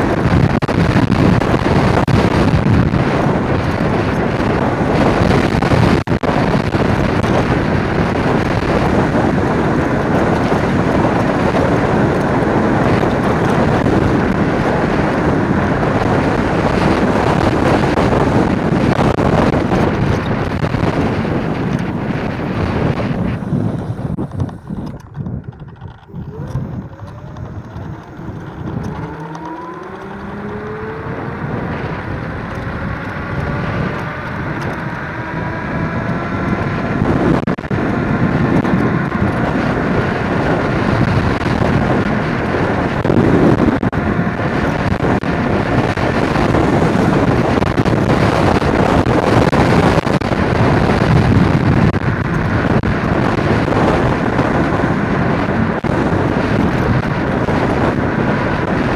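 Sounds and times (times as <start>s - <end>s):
electric scooter motors whining: 0.0s - 58.9s
wind and road noise: 0.0s - 58.9s.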